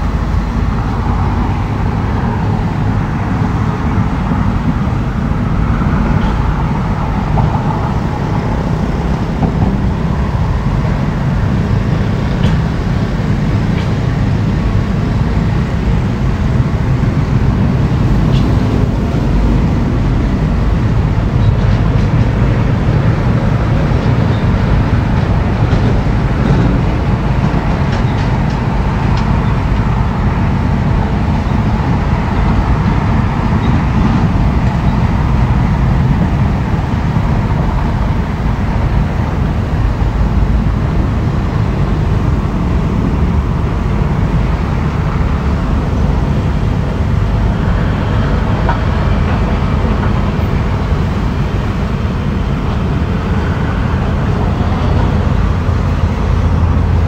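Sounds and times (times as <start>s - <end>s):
excavator diesel engine rumbling: 0.0s - 57.0s.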